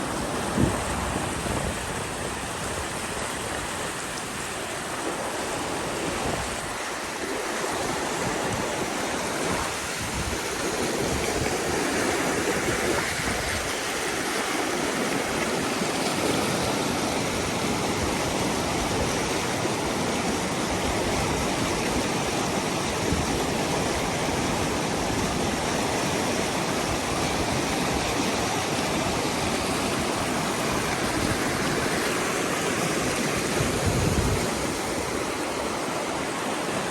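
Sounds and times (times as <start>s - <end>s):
creek water rushing: 0.0s - 36.9s.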